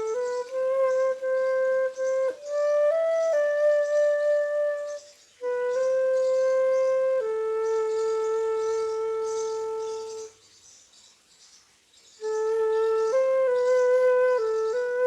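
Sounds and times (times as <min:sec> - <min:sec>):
solo flute melody: 0:00.0 - 0:10.4, 0:12.2 - 0:15.0.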